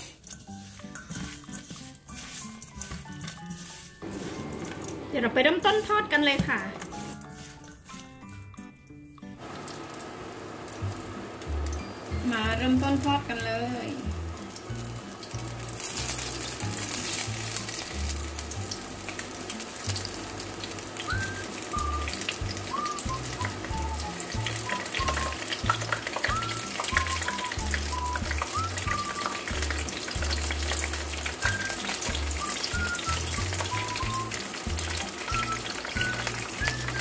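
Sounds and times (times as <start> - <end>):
chillies deep-frying in oil: 0.0 - 4.2, 9.4 - 37.0.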